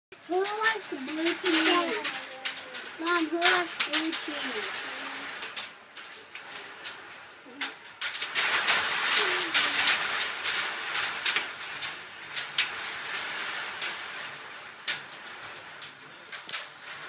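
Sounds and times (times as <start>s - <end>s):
hail and heavy rain pelting: 0.1s - 17.0s.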